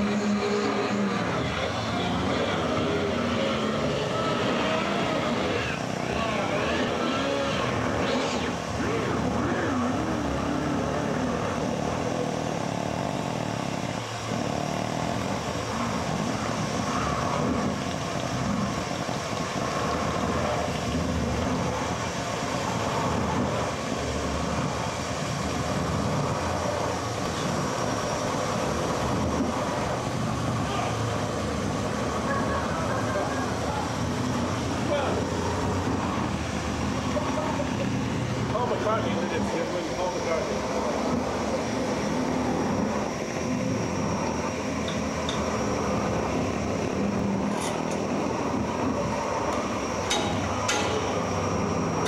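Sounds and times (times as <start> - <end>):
roar of amplified noise: 0.0 - 50.0.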